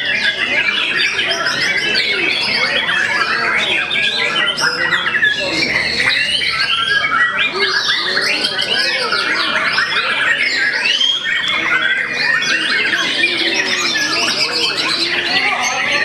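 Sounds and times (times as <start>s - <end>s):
songbirds whistling and trilling: 0.0s - 16.0s.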